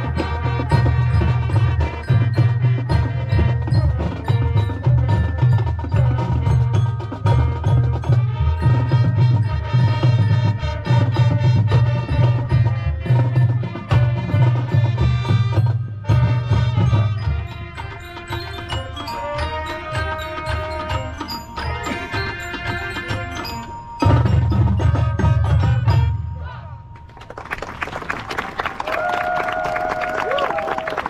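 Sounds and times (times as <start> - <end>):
drumline: 0.0 - 26.3
mallet percussion: 0.0 - 27.4
marching band playing: 0.0 - 31.0.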